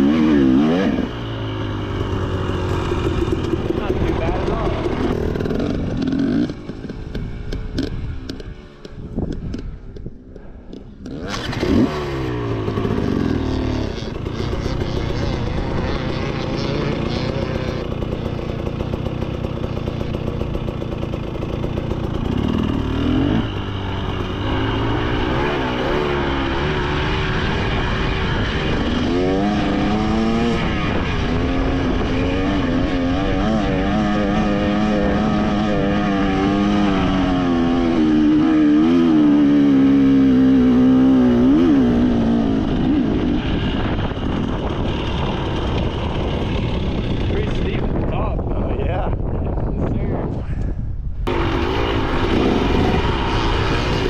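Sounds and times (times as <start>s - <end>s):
dirt bike engine revving: 0.0s - 49.0s, 51.2s - 54.0s.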